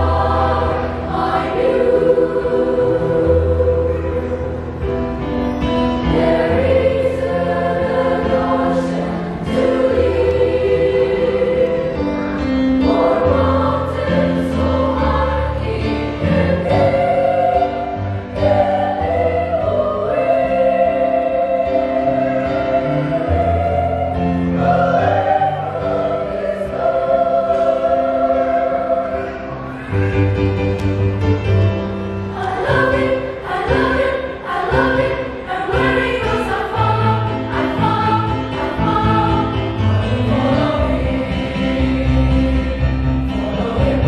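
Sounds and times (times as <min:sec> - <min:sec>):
children's choir singing: 0:00.0 - 0:30.7, 0:32.0 - 0:44.0.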